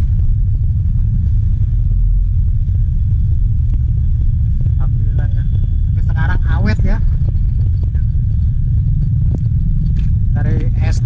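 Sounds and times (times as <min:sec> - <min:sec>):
minibus engine and road rumble: 0:00.0 - 0:11.0.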